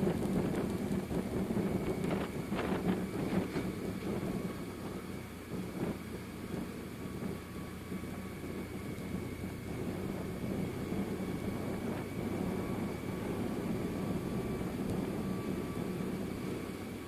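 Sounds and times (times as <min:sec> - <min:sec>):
motorcycle engine running steadily: 0:00.0 - 0:17.0
wind and road noise: 0:00.0 - 0:17.0.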